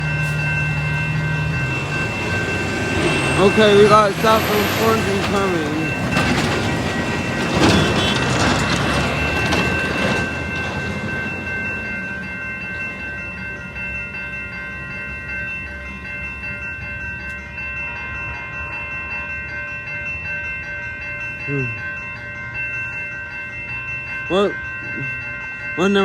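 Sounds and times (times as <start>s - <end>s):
steady high ringing tones: 0.0s - 26.0s
train passing with wheel clatter: 0.0s - 26.0s.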